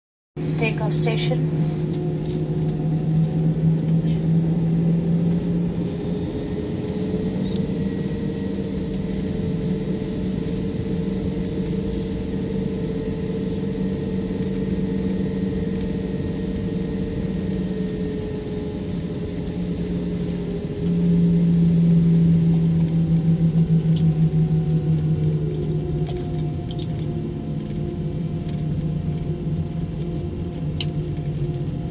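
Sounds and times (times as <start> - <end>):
jet engine drone from cabin: 0.4 - 31.9.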